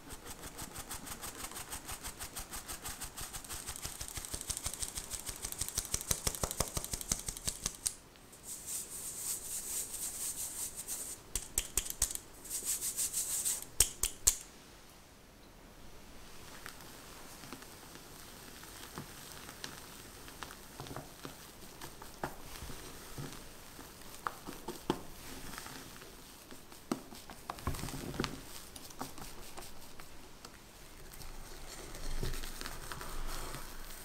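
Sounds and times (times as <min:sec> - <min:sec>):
flour rustling on mesh: 0:00.0 - 0:13.7, 0:16.4 - 0:34.0.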